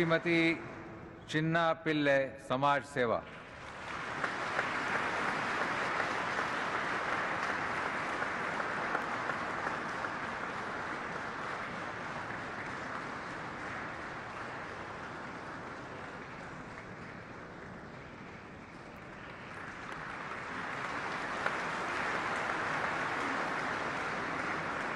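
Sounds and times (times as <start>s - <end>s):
audience applauding: 0.0s - 0.5s, 3.5s - 24.9s.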